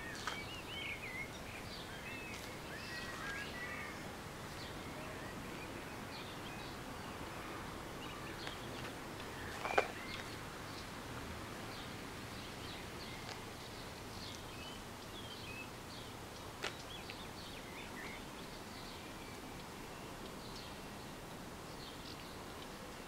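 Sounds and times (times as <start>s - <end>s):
small birds chirping: 0.0s - 11.0s, 11.6s - 23.0s
outdoor background noise: 0.0s - 23.0s.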